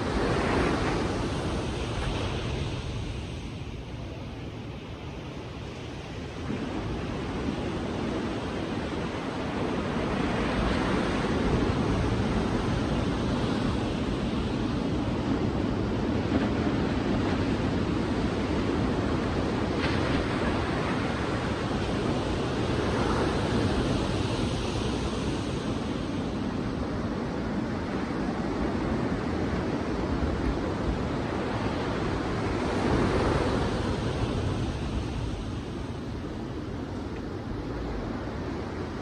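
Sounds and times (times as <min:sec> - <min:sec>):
sea waves breaking on a beach: 0:00.0 - 0:39.0.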